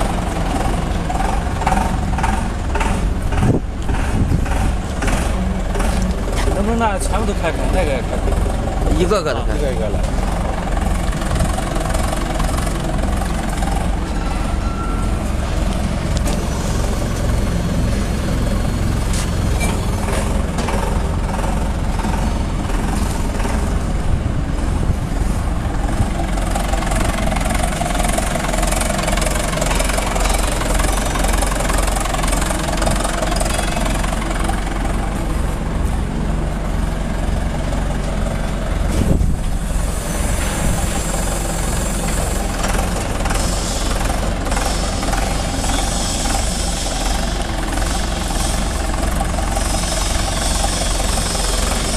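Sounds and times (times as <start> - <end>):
pump engine running: 0.0 - 51.9.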